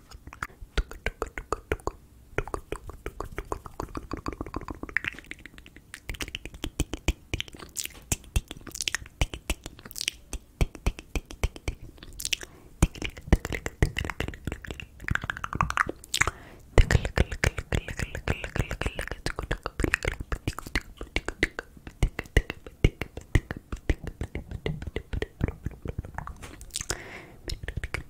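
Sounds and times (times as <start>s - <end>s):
wet mouth clicks and pops: 0.0s - 28.0s.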